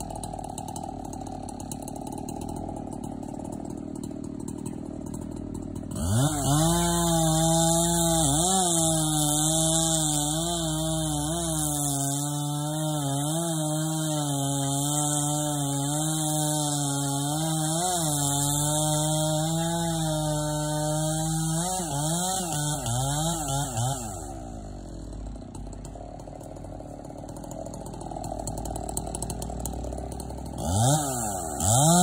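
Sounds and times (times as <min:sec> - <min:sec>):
chainsaw revving and idling: 0:00.0 - 0:32.0.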